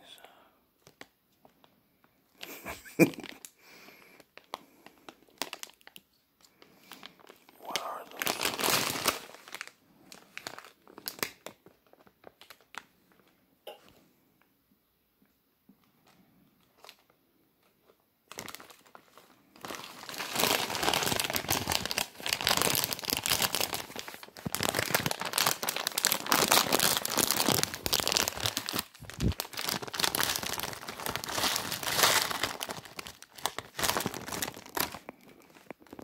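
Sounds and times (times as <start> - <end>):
plastic wrapper crinkling: 0.8 - 13.4, 16.0 - 36.0.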